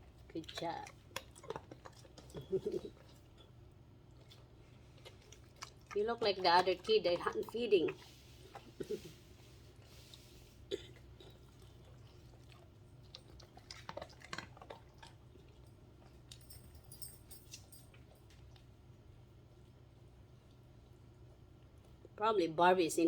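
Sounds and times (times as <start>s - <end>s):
dog chewing food: 0.0s - 22.2s.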